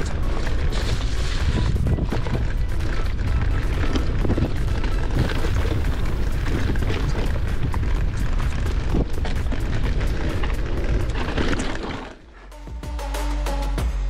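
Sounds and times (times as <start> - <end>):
wind rumble on microphone: 0.0 - 12.0
bike rattling and clicking: 0.0 - 12.5
tyres rolling over dirt: 0.0 - 12.5.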